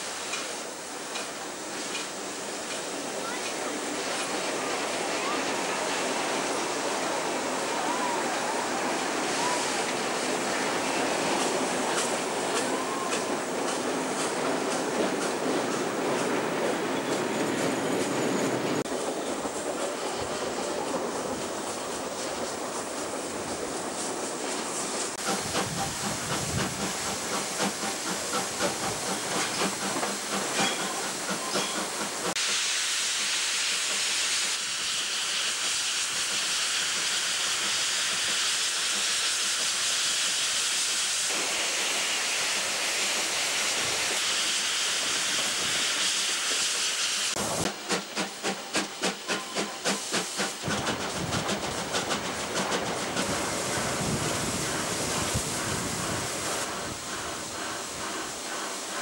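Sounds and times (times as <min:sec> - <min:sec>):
steam locomotive hissing: 0:00.0 - 0:59.0
train wheels clattering: 0:00.1 - 0:08.0, 0:08.8 - 0:32.4, 0:42.6 - 0:59.0.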